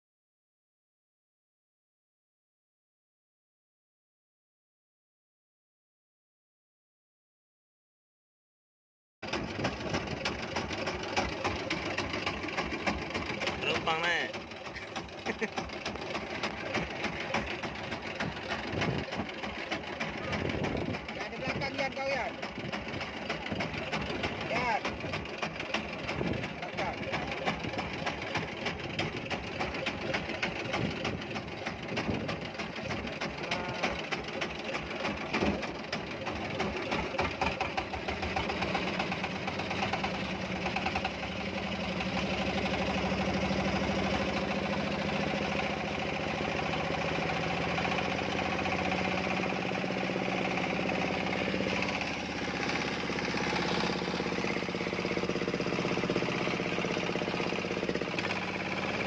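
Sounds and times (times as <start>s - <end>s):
diesel boat engine: 9.2s - 59.0s.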